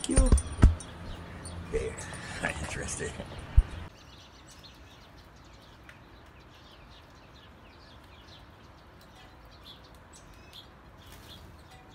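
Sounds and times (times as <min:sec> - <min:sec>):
small birds chirping: 0:00.0 - 0:11.9
steady outdoor hiss: 0:00.0 - 0:11.9.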